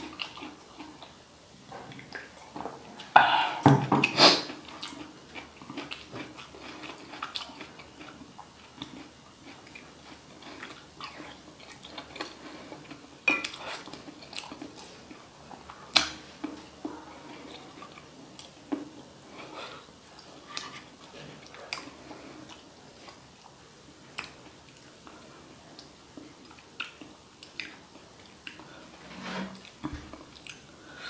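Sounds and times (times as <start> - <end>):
close-miked chewing and lip smacks: 0.0 - 1.2, 4.5 - 28.7, 29.7 - 30.7.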